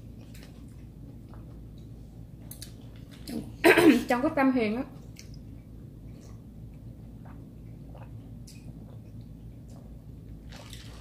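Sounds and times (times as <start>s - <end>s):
soft eating clicks and smacks: 0.0s - 3.4s, 5.0s - 10.4s
low room hum: 0.0s - 11.0s.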